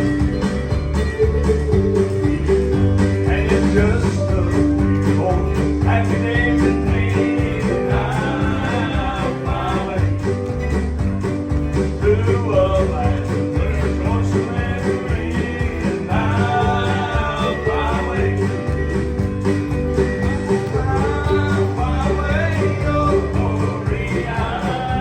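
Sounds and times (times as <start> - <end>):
guitar playing: 0.0 - 25.0
steady bass line: 0.0 - 25.0.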